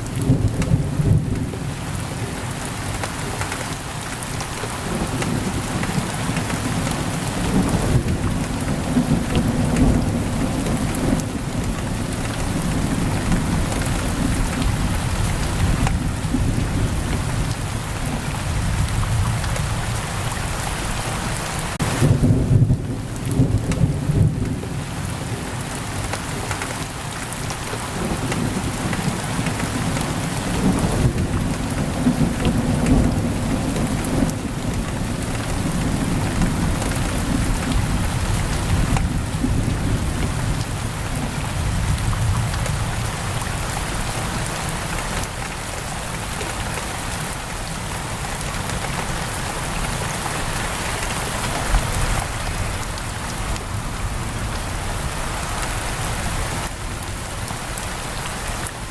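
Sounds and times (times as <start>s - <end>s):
heavy rain on a window: 0.0s - 58.9s.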